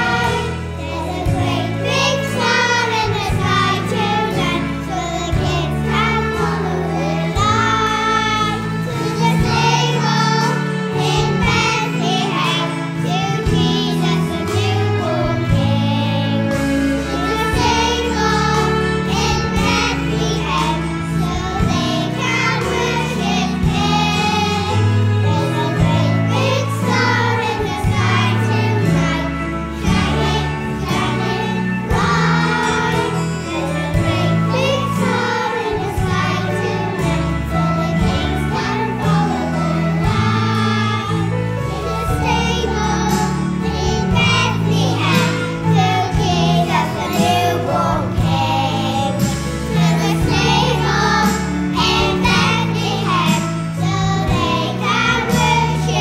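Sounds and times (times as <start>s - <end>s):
bass line: 0.0s - 56.0s
children singing: 0.0s - 56.0s
instrumental accompaniment: 0.0s - 56.0s.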